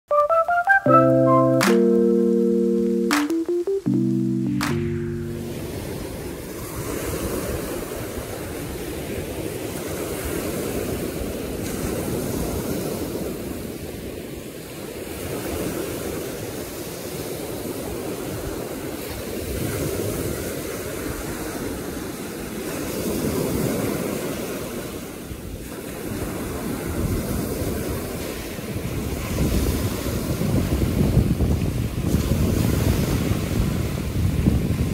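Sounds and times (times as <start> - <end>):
small waves breaking on beach: 5.5 - 34.9.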